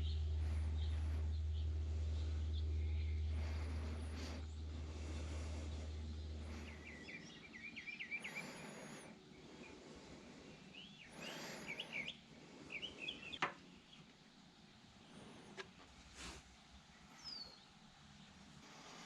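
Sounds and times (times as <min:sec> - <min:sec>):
small bird chirping: 0:00.0 - 0:15.6, 0:16.9 - 0:19.0
low hum: 0:00.0 - 0:19.0.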